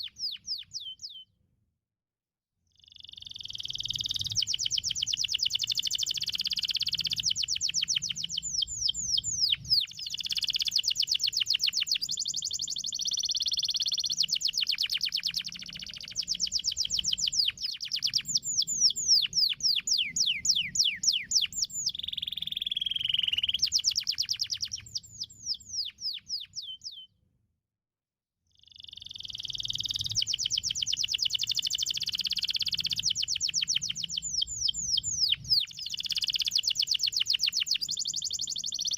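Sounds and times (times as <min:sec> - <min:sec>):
canary singing trills: 0:00.0 - 0:01.3, 0:02.8 - 0:27.1, 0:28.6 - 0:38.9.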